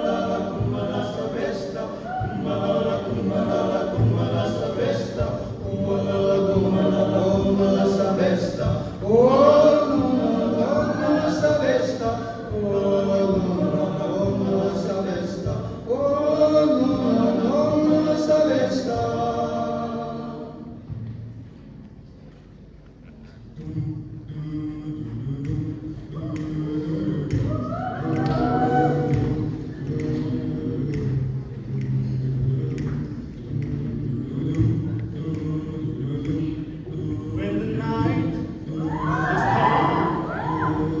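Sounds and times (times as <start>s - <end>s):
male choir singing in harmony: 0.0s - 21.1s, 23.4s - 41.0s.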